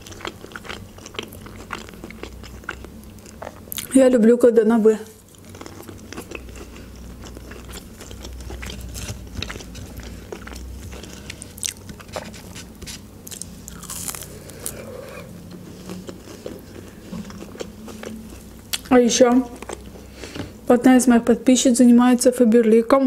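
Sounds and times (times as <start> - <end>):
crunchy chewing: 0.0 - 3.9, 5.2 - 20.0.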